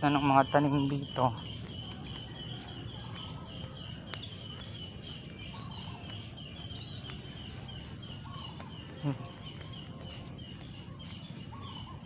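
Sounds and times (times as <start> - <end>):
small animal chirping: 0.0 - 12.0.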